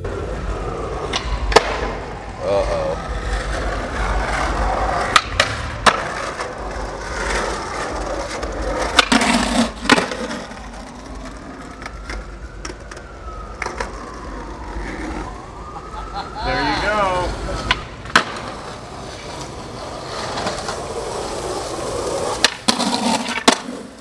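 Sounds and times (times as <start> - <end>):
skateboard wheels rolling on asphalt: 0.0 - 24.0
skateboard clacks: 1.0 - 2.0, 3.3 - 15.2, 17.6 - 24.0.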